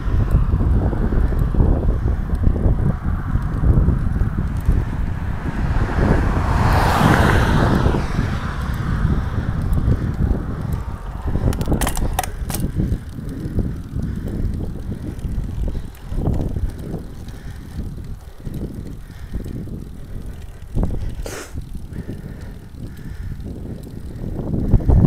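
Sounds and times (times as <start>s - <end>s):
sharp bicycle clicks: 0.0s - 25.0s
wind buffeting microphone: 0.0s - 25.0s.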